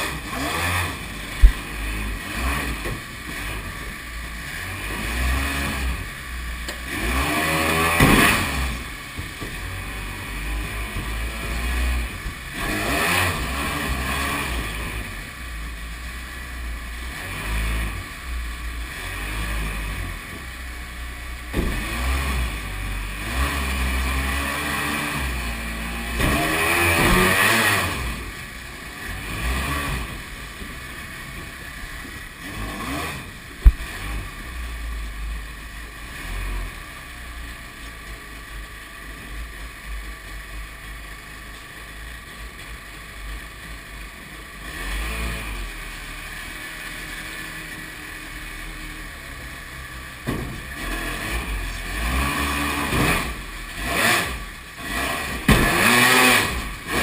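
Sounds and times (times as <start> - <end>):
jet boat engine revving: 0.0 - 39.0, 44.5 - 57.0.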